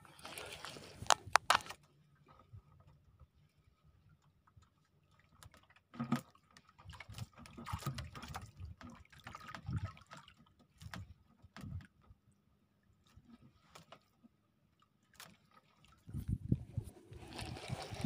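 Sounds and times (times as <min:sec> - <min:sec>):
water lapping against a boat hull: 0:00.0 - 0:18.0.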